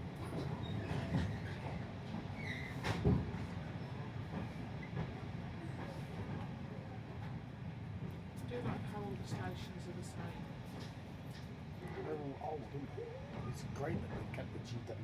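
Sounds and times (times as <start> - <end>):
train carriage low rumble: 0.0 - 15.0.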